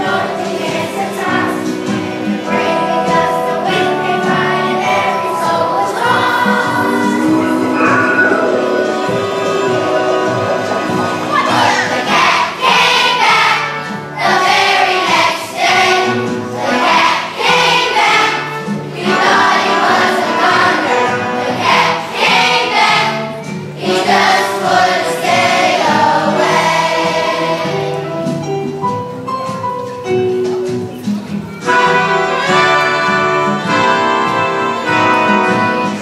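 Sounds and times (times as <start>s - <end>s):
children's choir singing: 0.0s - 28.5s, 31.6s - 36.0s
instrumental accompaniment: 0.0s - 36.0s.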